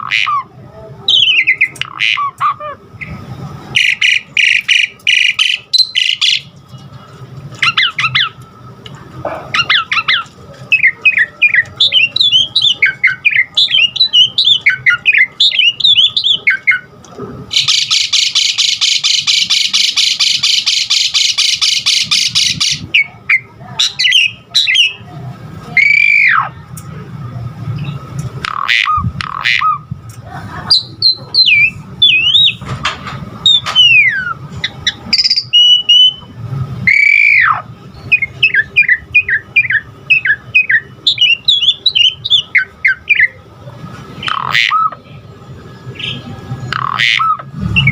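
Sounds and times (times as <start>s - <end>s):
starling singing: 0.0s - 6.6s, 7.5s - 8.4s, 9.4s - 26.7s, 27.8s - 30.0s, 30.7s - 32.7s, 33.4s - 47.9s.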